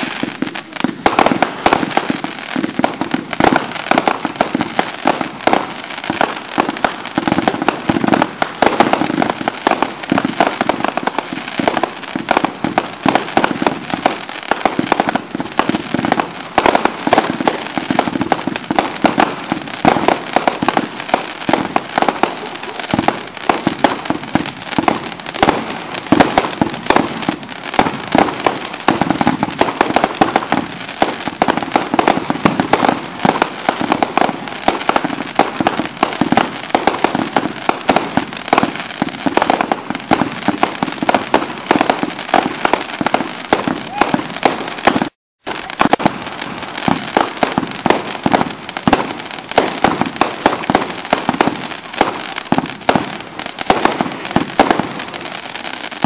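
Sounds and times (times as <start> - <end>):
fireworks barrage of bangs: 0.0 - 56.0.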